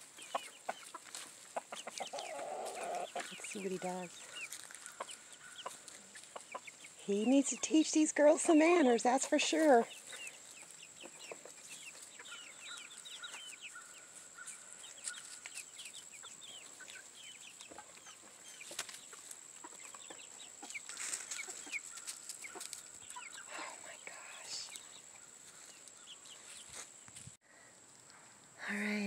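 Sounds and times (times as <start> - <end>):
chickens clucking and peeping: 0.0 - 27.3.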